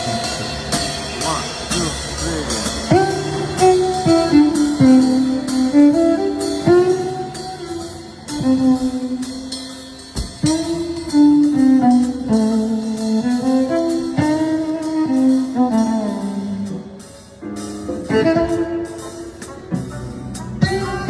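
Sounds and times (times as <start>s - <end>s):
light drums: 0.0s - 21.0s
live jazz band playing: 0.0s - 21.0s.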